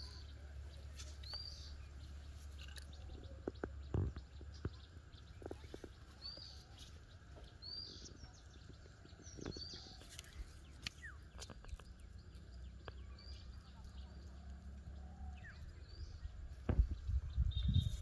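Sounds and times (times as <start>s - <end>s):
faint bird chirps: 0.0s - 18.0s
steady low rumble: 0.0s - 18.0s.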